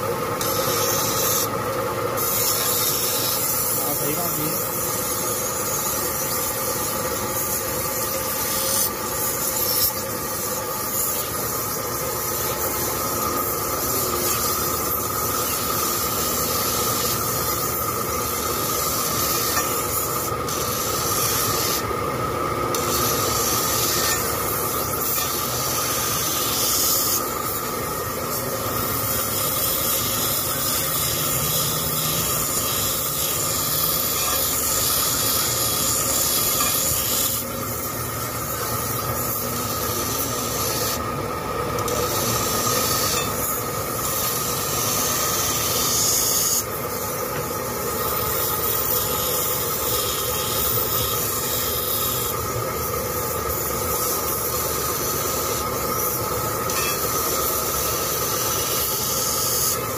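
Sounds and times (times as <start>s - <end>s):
blade grinding hiss: 0.0s - 21.9s, 22.7s - 59.9s
grinding wheel whine: 0.0s - 59.9s.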